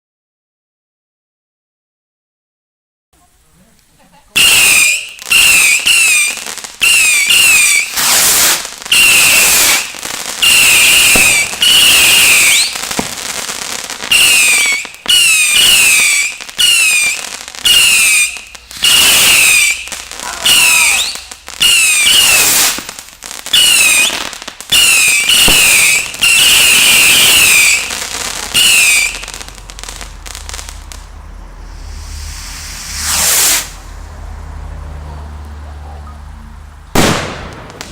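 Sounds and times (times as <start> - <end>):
firework crackling: 3.3 - 35.6, 36.6 - 37.9
whistling firework shots: 4.4 - 34.0, 36.9 - 37.9.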